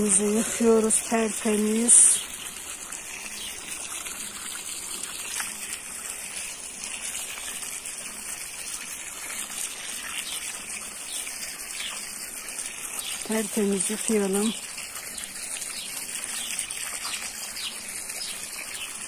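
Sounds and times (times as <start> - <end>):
hose water pouring into basin: 0.0 - 19.0
water splashing over fruit: 0.0 - 19.0.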